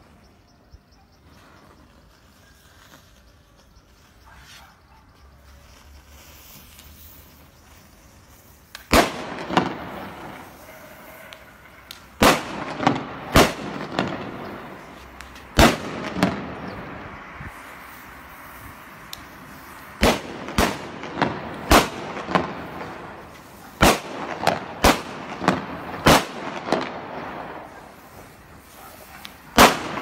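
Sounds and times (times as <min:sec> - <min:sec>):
firecrackers banging: 0:05.7 - 0:30.0.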